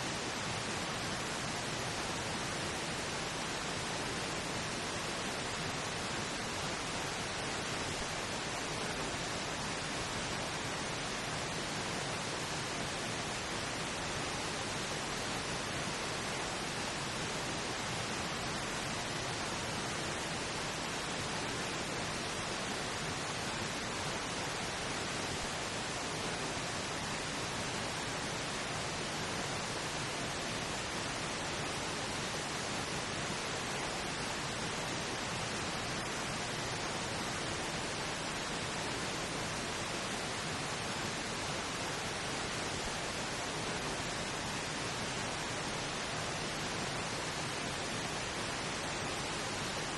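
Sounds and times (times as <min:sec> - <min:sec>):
pink noise hiss: 0:00.0 - 0:49.9.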